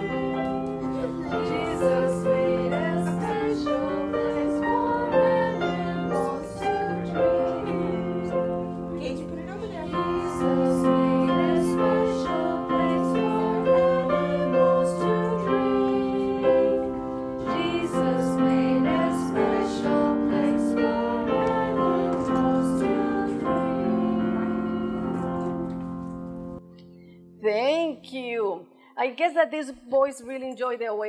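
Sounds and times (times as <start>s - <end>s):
piano accompaniment: 0.0s - 28.1s.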